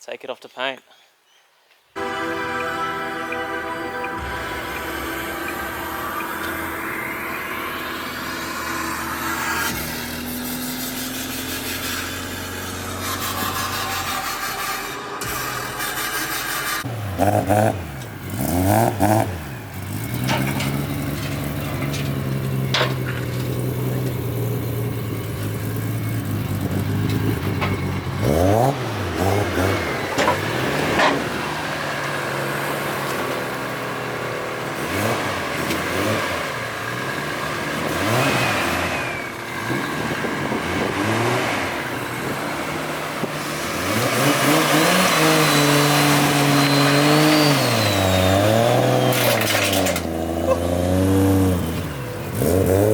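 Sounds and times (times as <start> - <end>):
car engine revving: 2.0 - 52.9.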